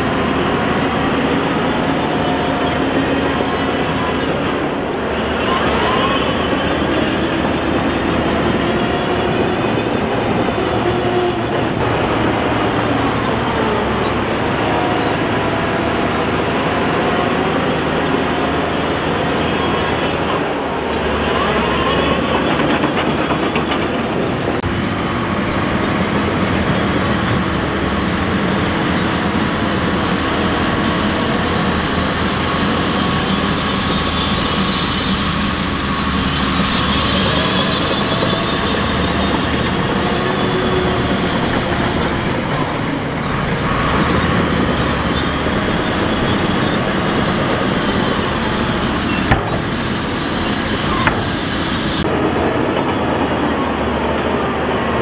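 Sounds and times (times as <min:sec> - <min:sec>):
diesel earthmoving machinery engine: 0:00.0 - 0:55.0.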